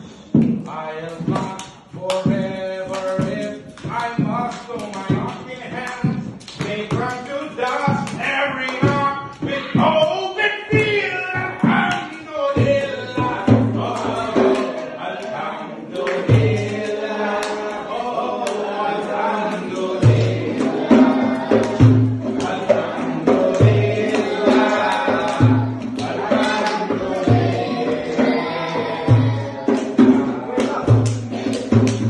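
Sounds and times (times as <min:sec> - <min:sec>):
group singing: 0:00.0 - 0:32.0.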